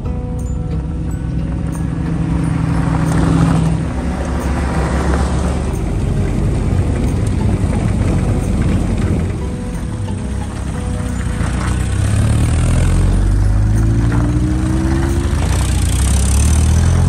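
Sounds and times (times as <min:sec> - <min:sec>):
off-road vehicle engines driving past: 0:00.0 - 0:17.0.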